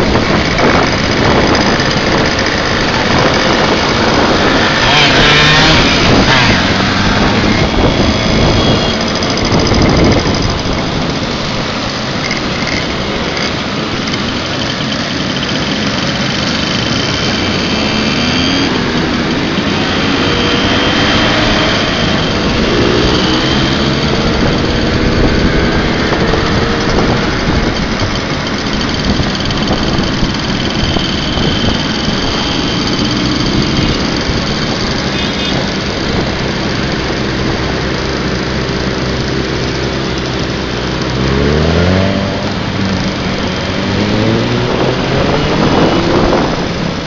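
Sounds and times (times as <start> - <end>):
moped engine revving: 0.0 - 47.0
moped engines running: 0.0 - 47.0.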